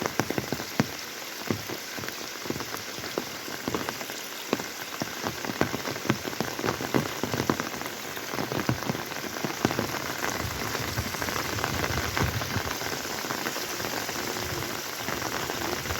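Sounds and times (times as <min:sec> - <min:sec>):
heavy rain hiss: 0:00.0 - 0:15.9
raindrops splattering on surfaces: 0:00.0 - 0:15.9.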